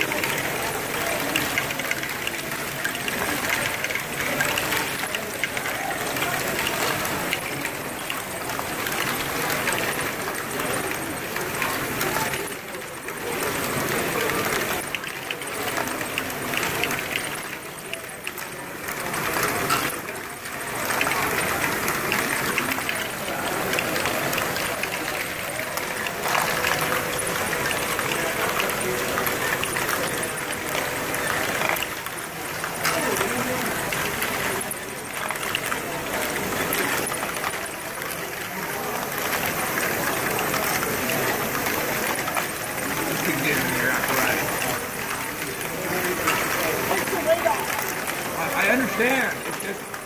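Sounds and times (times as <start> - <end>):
plastic balls rattling and clicking: 0.0 - 50.0
plastic gears clattering: 0.0 - 50.0.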